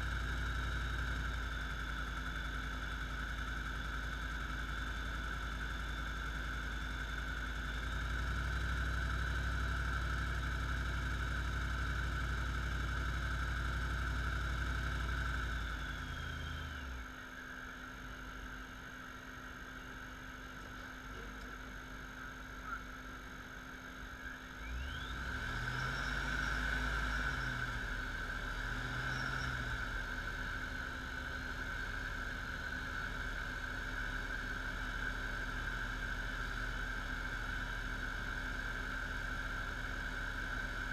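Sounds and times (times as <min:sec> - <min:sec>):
engine revving with rising whine: 0:00.0 - 0:18.8, 0:23.8 - 0:40.9
car engine running under load: 0:00.0 - 0:40.9.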